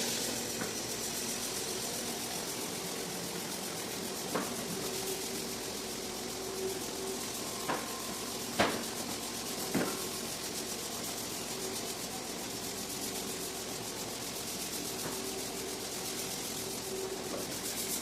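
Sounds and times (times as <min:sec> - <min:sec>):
even hiss: 0:00.0 - 0:18.0
machine humming: 0:00.0 - 0:18.0.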